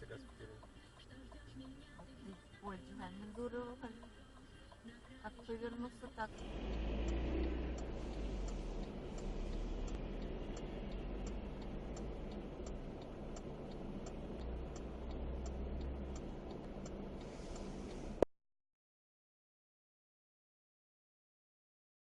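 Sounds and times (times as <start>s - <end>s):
car road noise: 0.0s - 18.2s
turn signal ticking: 0.0s - 18.3s.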